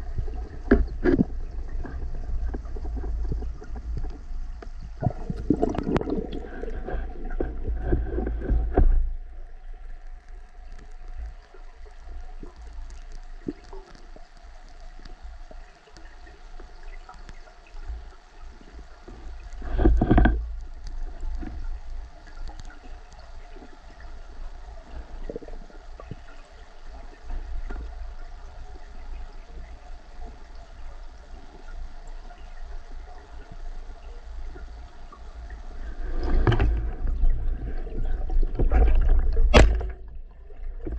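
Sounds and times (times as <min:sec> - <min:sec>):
underwater rushing and gurgling: 0:00.0 - 0:40.9.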